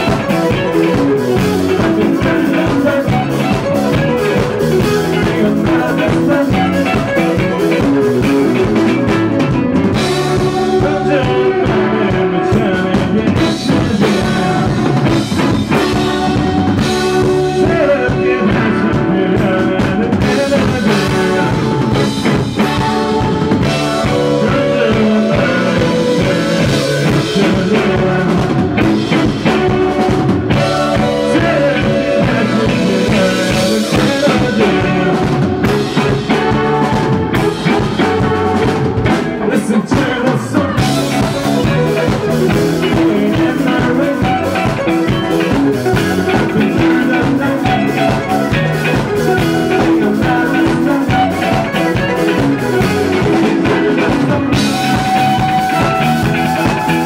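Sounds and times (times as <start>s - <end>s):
drum kit: 0.0s - 57.0s
electric guitars: 0.0s - 57.0s
man singing: 0.0s - 57.0s.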